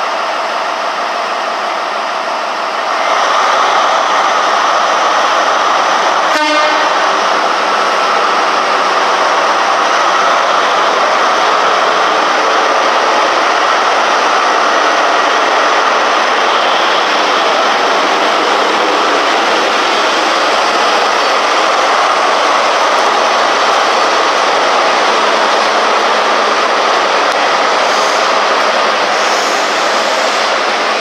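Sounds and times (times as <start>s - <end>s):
train diesel engine running: 0.0s - 31.0s.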